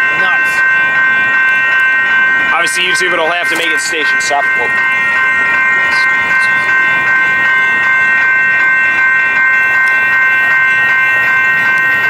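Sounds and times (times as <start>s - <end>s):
passenger train rumbling: 0.0s - 12.0s
railroad crossing bells ringing: 0.0s - 12.0s.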